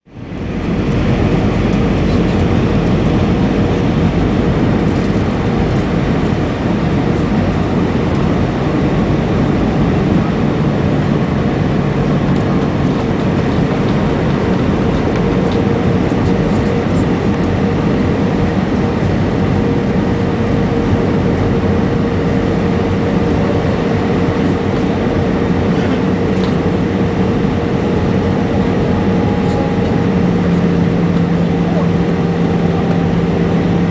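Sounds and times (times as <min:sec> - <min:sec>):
jet engines: 0:00.0 - 0:33.9
steady cabin hum: 0:00.1 - 0:33.9.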